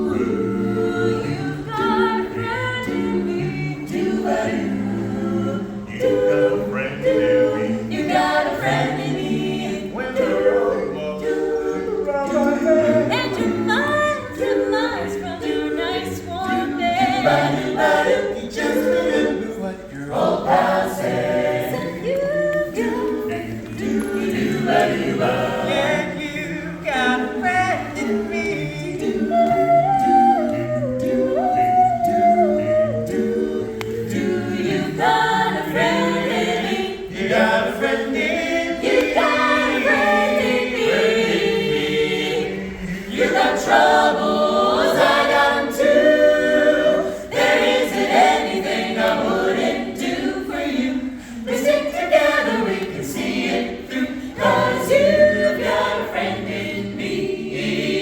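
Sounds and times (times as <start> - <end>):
a cappella ensemble singing: 0.0 - 58.0.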